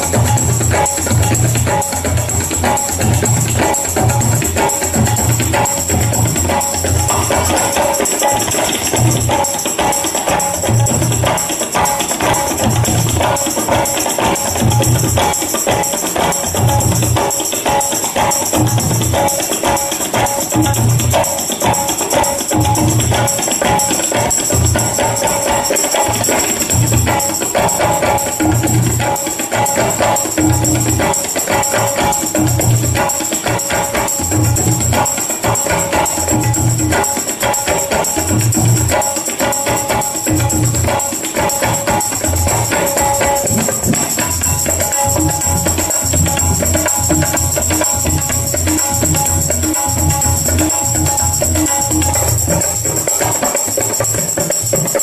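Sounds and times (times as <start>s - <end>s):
tablas playing fast strokes: 0.0s - 55.0s.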